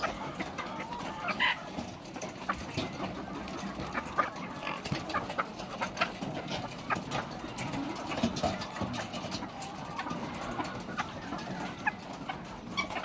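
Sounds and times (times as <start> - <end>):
hens clucking: 0.0 - 13.0
steady background noise: 0.0 - 13.0.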